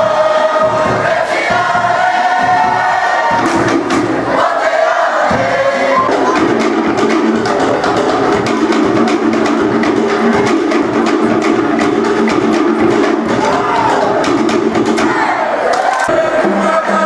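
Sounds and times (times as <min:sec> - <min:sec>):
slit log drums rapid rhythm: 0:00.0 - 0:15.5.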